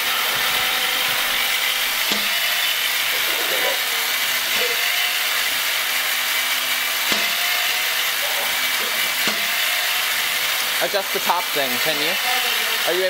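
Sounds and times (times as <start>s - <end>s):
flywheel motors whirring: 0.0s - 13.0s.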